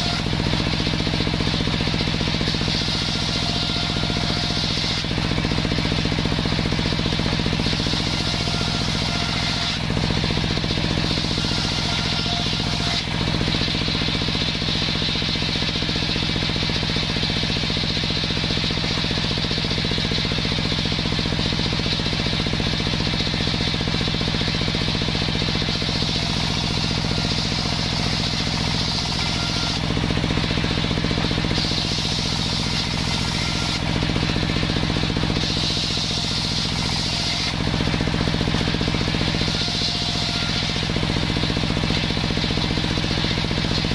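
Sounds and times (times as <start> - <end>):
circular saw cutting wood: 0.0 - 43.9
saw engine running: 0.0 - 43.9.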